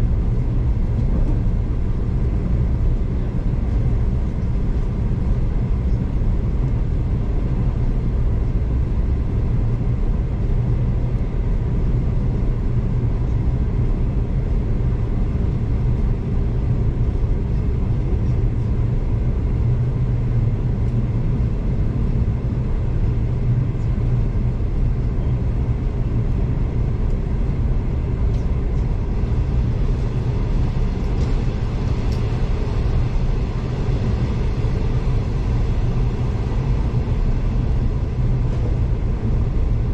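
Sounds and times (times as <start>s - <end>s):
train wheels rumbling on rails: 0.0s - 8.4s, 14.9s - 39.9s.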